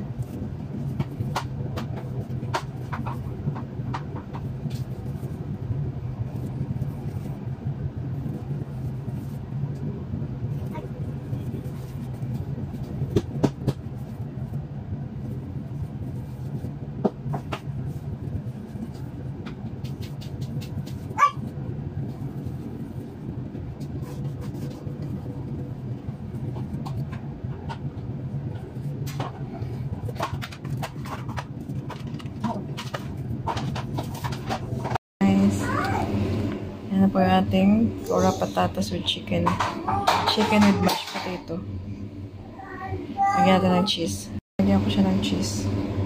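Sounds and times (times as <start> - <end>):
low hum: 0.0 - 46.0.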